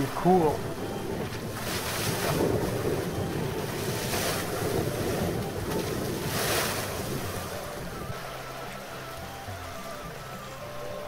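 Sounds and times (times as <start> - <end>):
river current rushing: 0.0 - 11.0
elephant splashing water: 0.6 - 10.3.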